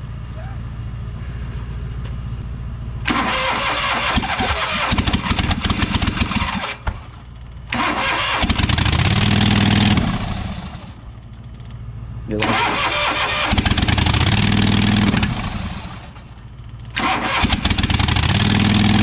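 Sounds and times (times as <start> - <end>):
engine cranking and sputtering: 1.2 - 19.0.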